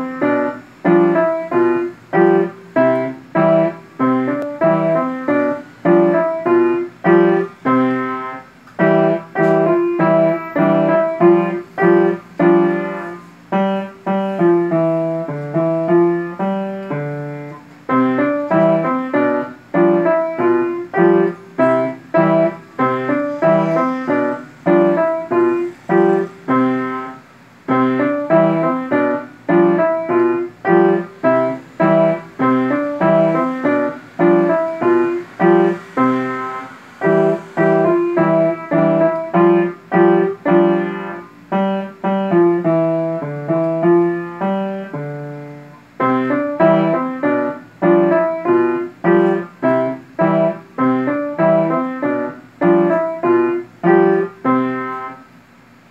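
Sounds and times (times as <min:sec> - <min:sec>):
upright piano playing: 0:00.0 - 0:55.9.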